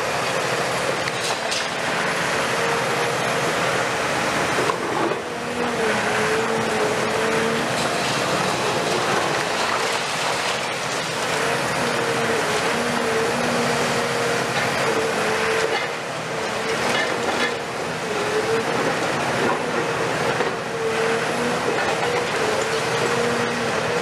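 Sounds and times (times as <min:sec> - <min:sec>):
excavator engine and hydraulics whine: 0:00.0 - 0:24.0.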